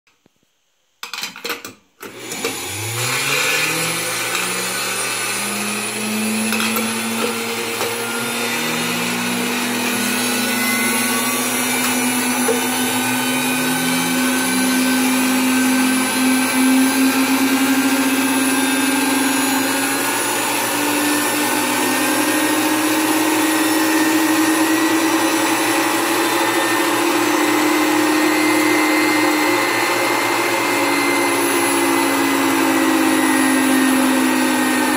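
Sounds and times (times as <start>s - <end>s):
mixer motors whining: 2.0s - 34.9s.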